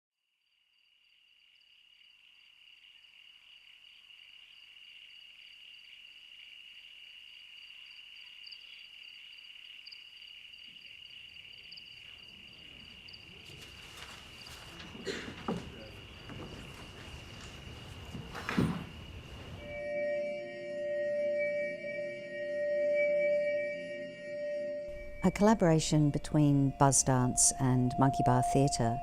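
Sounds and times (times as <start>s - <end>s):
crickets chirping: 0.3s - 29.0s.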